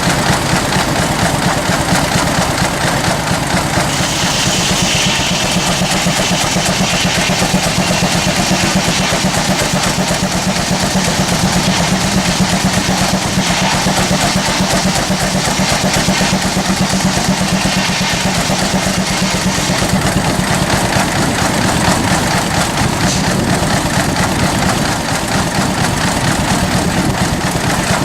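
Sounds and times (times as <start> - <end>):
steam engine beating: 0.0 - 28.0
hissing whine: 2.6 - 28.0.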